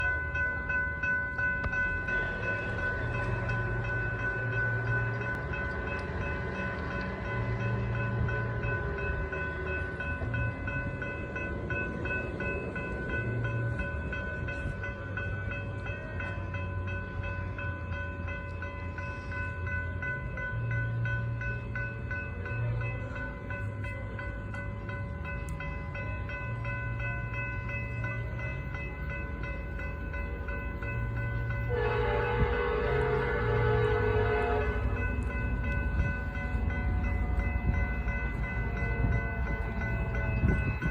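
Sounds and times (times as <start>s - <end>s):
diesel locomotive engine rumble: 0.0s - 40.9s.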